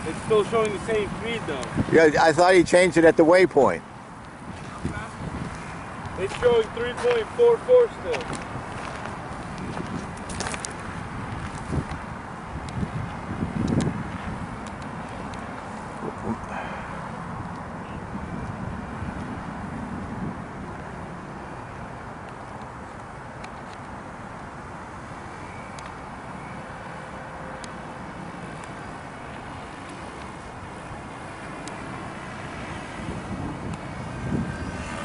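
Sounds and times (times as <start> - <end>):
rumbling outdoor noise: 0.0 - 35.0.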